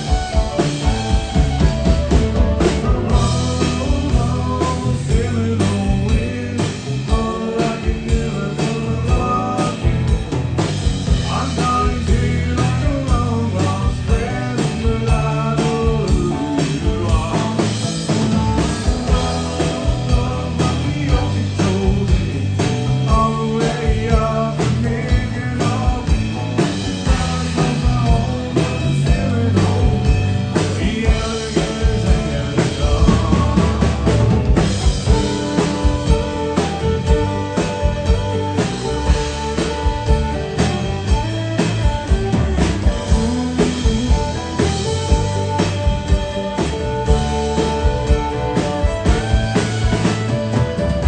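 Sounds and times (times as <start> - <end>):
band playing country-rock music: 0.0 - 51.0.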